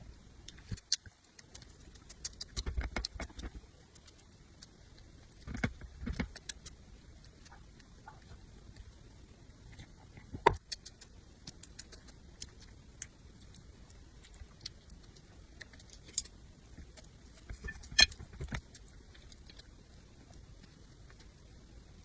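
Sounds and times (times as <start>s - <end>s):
eating mouth noises: 0.5s - 8.9s, 9.7s - 19.8s.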